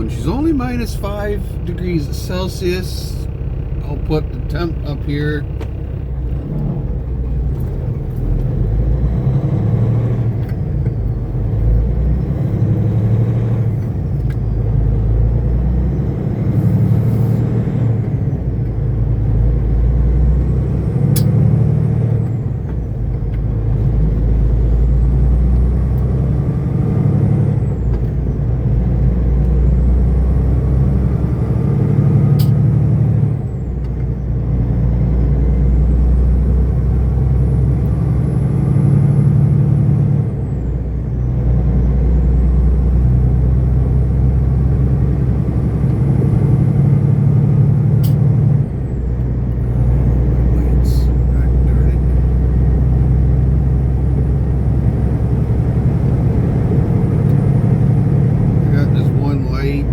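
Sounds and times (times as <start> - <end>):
road noise: 0.0 - 59.9
truck diesel engine: 0.0 - 59.9.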